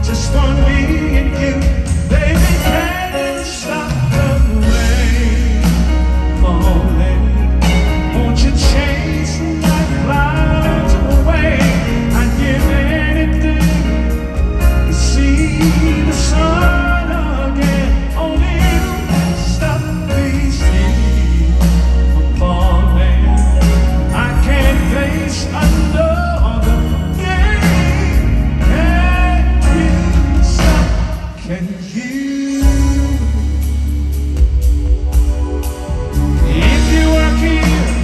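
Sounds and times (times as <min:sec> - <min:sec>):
man singing: 0:00.0 - 0:33.7, 0:36.2 - 0:38.0
live band playing pop ballad: 0:00.0 - 0:38.0.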